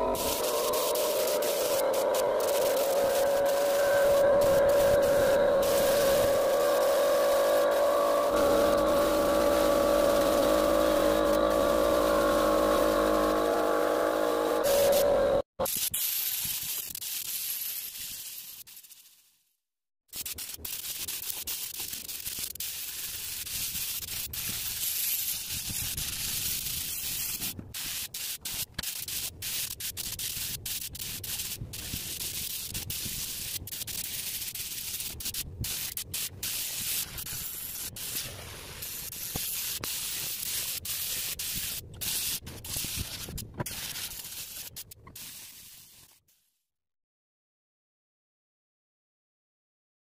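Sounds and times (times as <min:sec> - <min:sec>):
paint spray gun hissing: 0:00.0 - 0:19.1, 0:20.2 - 0:46.4.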